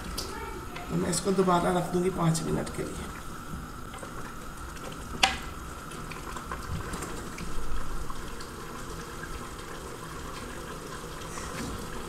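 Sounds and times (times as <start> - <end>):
liquid bubbling: 0.0 - 12.0.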